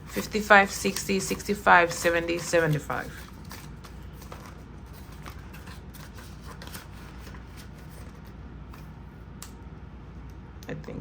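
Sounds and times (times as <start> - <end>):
paper banknotes rustling: 0.0 - 8.9.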